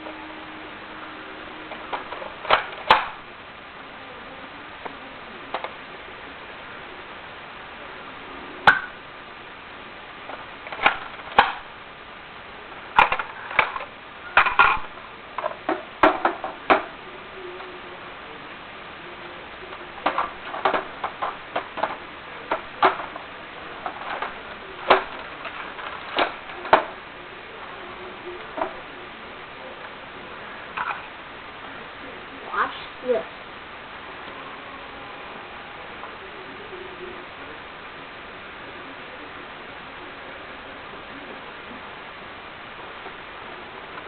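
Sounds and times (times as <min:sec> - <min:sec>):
background hiss: 0:00.0 - 0:44.0.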